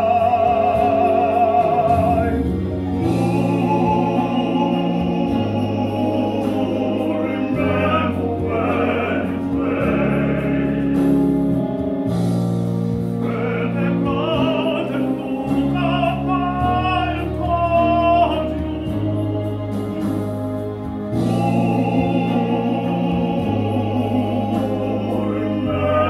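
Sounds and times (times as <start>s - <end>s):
male vocal quartet singing harmony: 0.0s - 26.0s.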